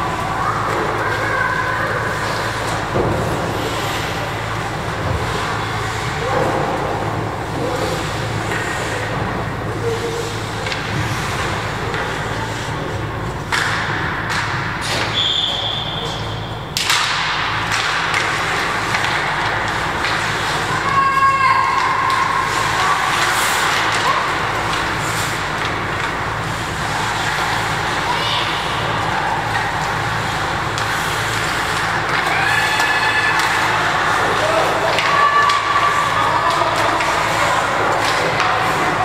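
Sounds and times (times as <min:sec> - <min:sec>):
skates scraping ice: 0:00.0 - 0:15.8, 0:16.8 - 0:39.0.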